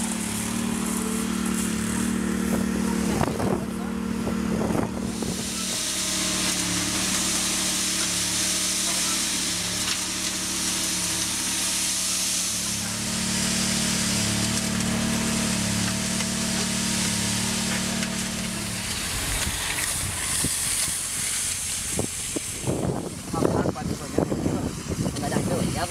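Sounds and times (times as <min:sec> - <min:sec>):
machine engine humming: 0:00.0 - 0:25.9
constant hiss: 0:04.9 - 0:25.9.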